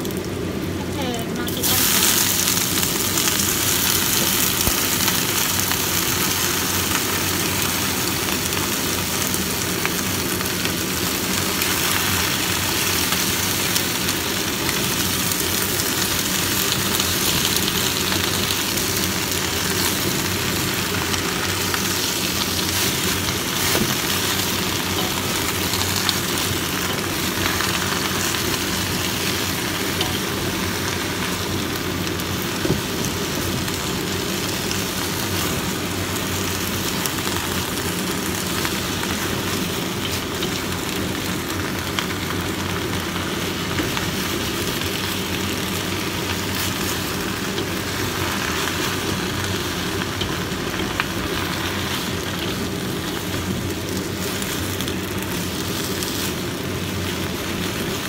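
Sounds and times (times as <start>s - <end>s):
constant low hum: 0.0s - 58.0s
leaves sizzling in hot oil: 0.0s - 58.0s.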